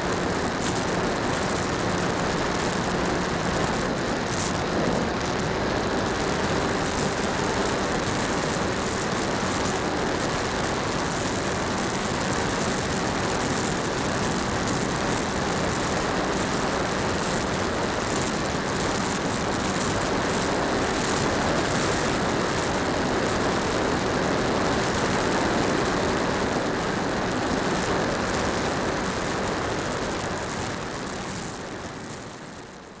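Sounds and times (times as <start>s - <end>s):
wind rush: 0.0s - 32.1s
model plane motor and propeller: 0.0s - 33.0s.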